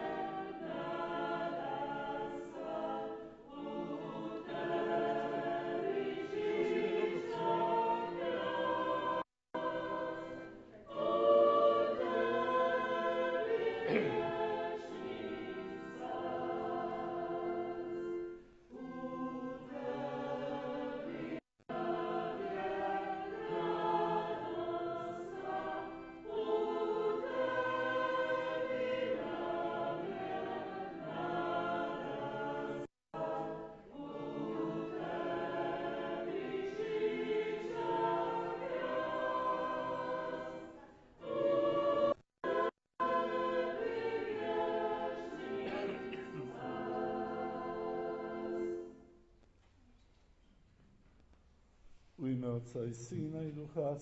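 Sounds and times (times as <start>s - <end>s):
choir singing a hymn: 0.0s - 49.1s.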